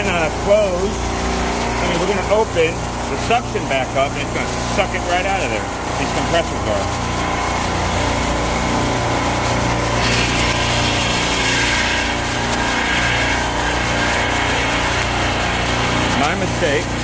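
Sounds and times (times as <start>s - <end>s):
refrigeration compressors droning: 0.0s - 17.0s.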